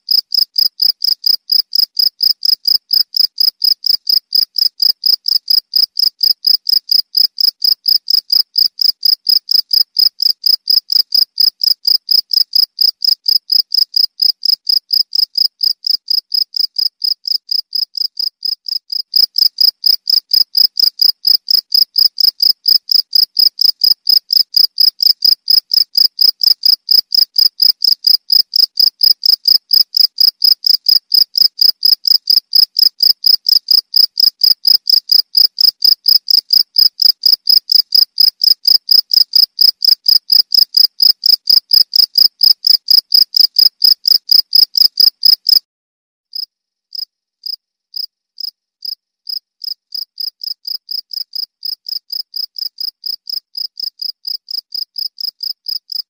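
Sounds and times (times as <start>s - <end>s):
cricket chirping: 0.1s - 45.6s.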